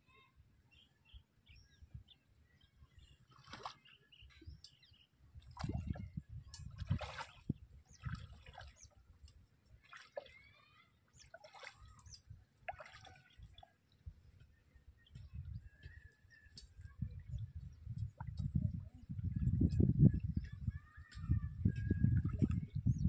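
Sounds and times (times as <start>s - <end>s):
water drips and splashes: 3.2s - 22.9s.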